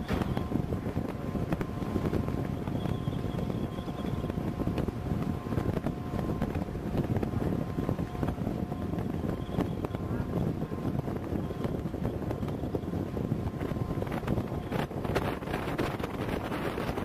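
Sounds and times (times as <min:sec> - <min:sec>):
faint humming tones: 0:00.0 - 0:17.0
steady low rumble: 0:00.0 - 0:17.0
wind buffeting microphone: 0:00.0 - 0:17.0.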